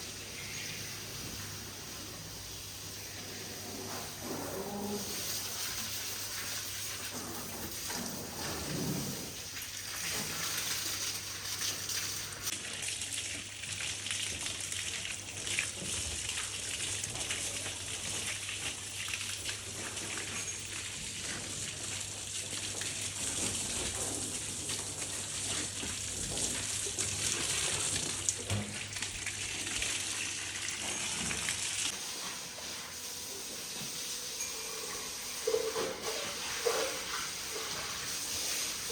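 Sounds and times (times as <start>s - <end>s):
running water gushing: 0.0s - 38.9s.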